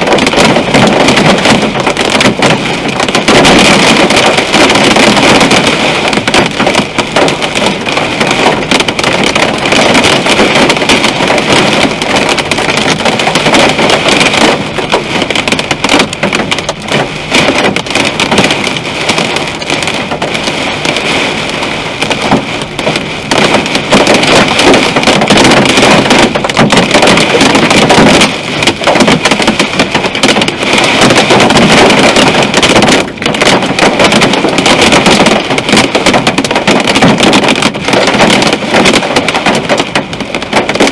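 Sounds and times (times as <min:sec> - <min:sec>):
heavy rain drumming on car roof: 0:00.0 - 0:40.9.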